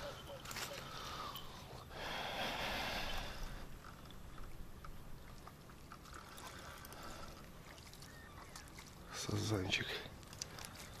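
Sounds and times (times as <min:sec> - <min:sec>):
faint water trickling: 0:00.0 - 0:11.0
water splashing and sloshing: 0:00.0 - 0:11.0.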